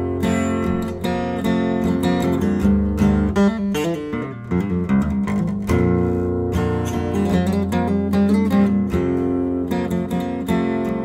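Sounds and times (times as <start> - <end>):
acoustic guitar country tune: 0.0 - 11.0.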